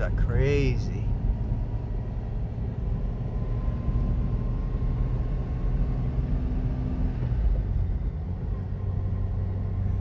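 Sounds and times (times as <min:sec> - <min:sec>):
engine and drivetrain rumble: 0:00.0 - 0:10.0.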